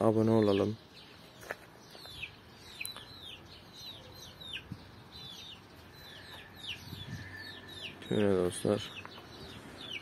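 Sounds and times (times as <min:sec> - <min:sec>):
chicks peeping: 0:00.1 - 0:10.0.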